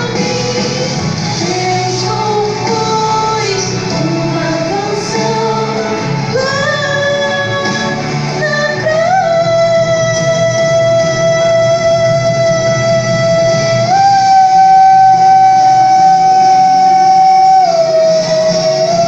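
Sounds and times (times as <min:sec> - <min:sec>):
instrumental accompaniment: 0:00.0 - 0:19.0
woman singing: 0:00.0 - 0:19.0.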